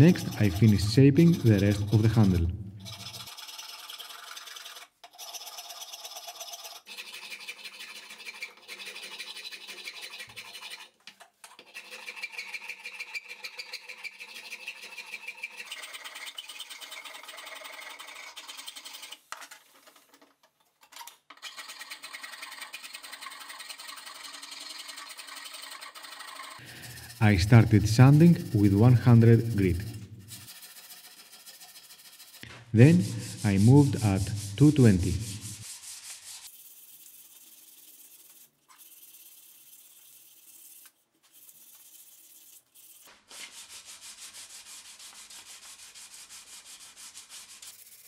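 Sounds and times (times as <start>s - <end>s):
rasp and file scraping wood: 0.0s - 11.0s, 11.6s - 19.2s, 21.5s - 48.0s.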